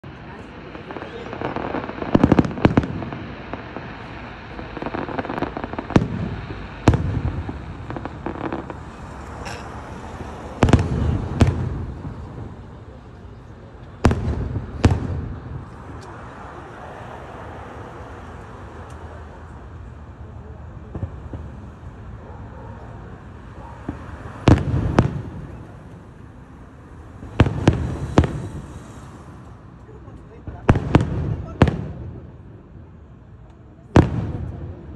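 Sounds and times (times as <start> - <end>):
fireworks bangs: 0.0 - 32.8, 33.8 - 34.9
fireworks crackling: 0.0 - 34.9.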